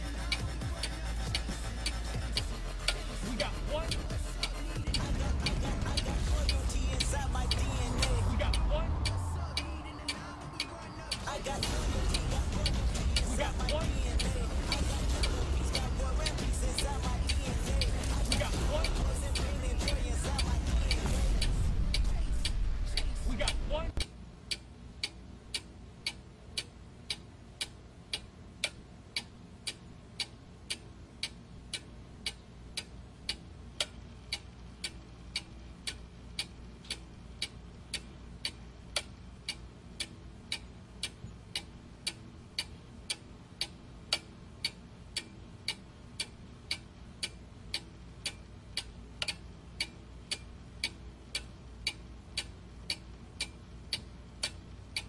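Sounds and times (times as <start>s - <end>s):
faint low hum: 0.0s - 55.0s
steady ticking: 0.0s - 55.0s.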